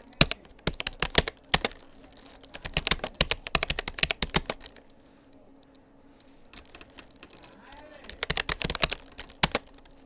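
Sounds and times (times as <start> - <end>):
computer keyboard keystrokes: 0.0 - 5.0, 6.5 - 10.0.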